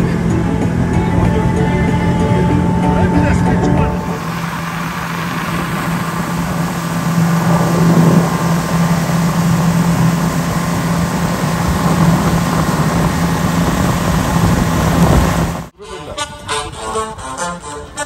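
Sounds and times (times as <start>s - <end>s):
noisy rush: 0.0s - 15.7s
engine droning: 0.0s - 15.8s.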